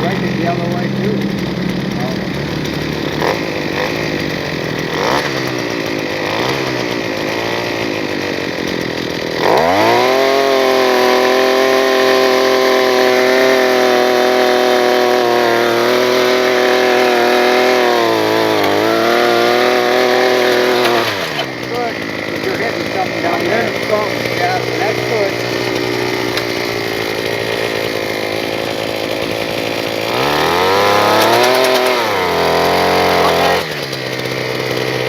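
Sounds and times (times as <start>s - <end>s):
earth auger engine: 0.0s - 35.0s.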